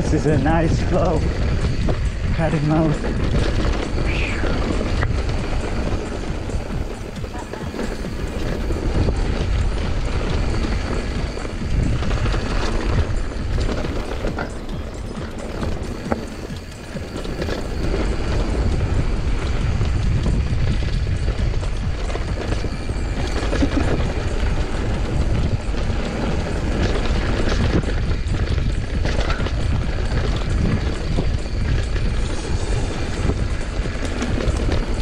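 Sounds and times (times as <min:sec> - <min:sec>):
bike rattling and clicking: 0:00.0 - 0:35.0
bike tyres on dirt: 0:00.0 - 0:35.0
wind rumbling on microphone: 0:00.0 - 0:35.0.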